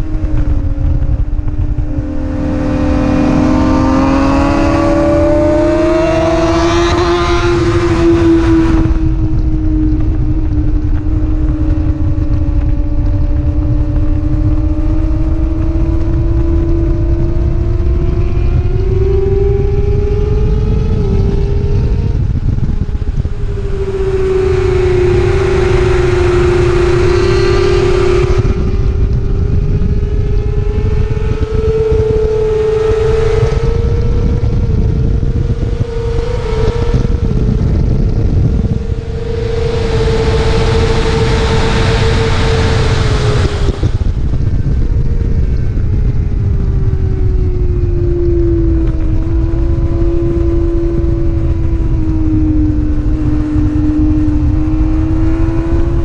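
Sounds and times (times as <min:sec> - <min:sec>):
racing motorcycle engine: 0:00.0 - 0:56.0
wind noise: 0:00.0 - 0:56.0.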